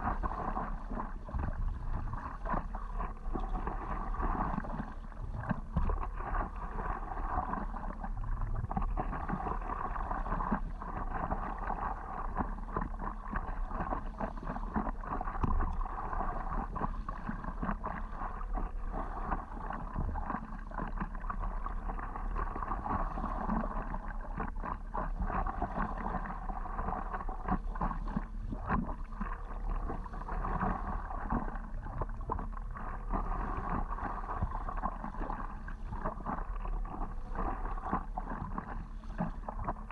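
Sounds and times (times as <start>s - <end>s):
water splashing against paddleboard: 0.0s - 39.9s.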